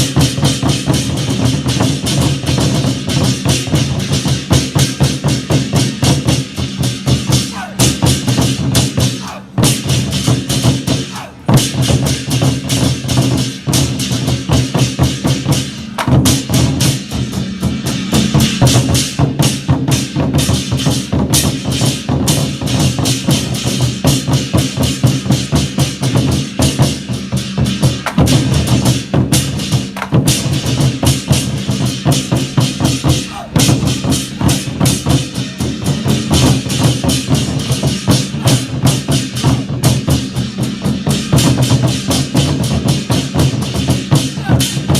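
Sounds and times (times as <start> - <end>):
war drums beating fast: 0.0 - 44.9.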